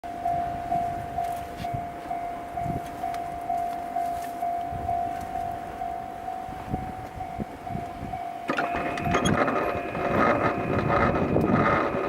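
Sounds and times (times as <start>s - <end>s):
level-crossing warning bell: 0.1s - 12.0s.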